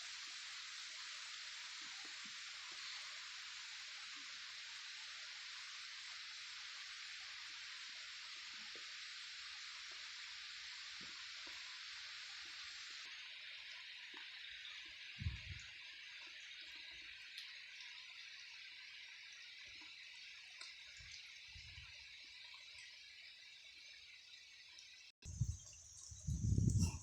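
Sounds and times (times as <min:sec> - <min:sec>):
rain hissing: 0:00.0 - 0:24.1, 0:25.2 - 0:27.0.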